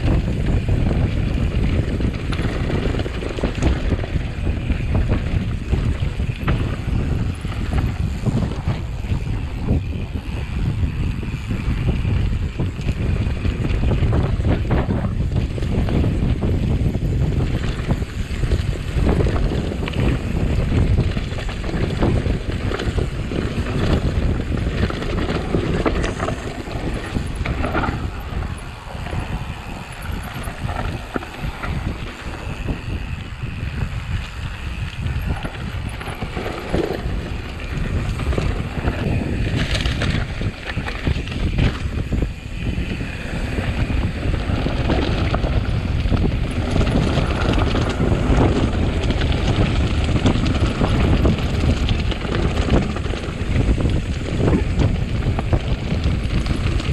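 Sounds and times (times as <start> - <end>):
bike knocks and rattles: 0.0 - 56.9
wind buffeting microphone: 0.0 - 56.9.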